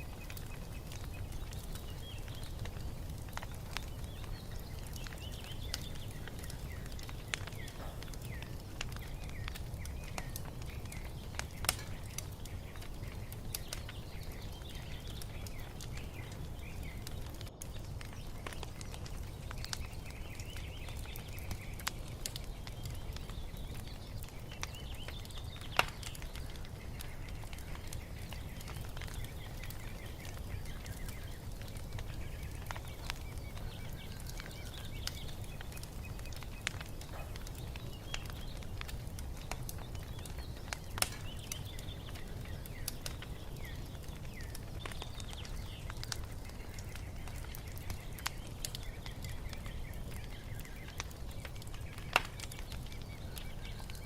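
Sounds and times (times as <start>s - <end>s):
small birds chirping: 0.0s - 54.0s
wood fire crackling and popping: 0.0s - 54.0s.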